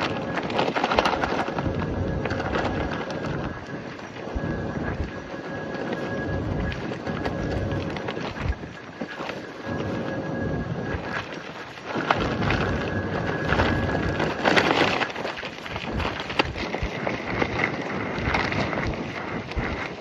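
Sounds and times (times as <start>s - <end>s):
nylon fabric flapping in wind: 0.0s - 20.0s
wind buffeting microphone: 0.0s - 20.0s.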